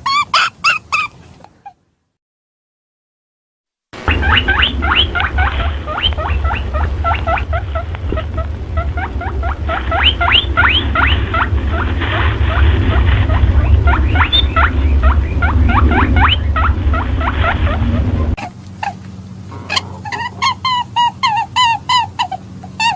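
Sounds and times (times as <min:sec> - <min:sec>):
rabbit squeaking: 0:00.0 - 0:01.8, 0:04.1 - 0:22.9
steady low hum: 0:04.0 - 0:22.9.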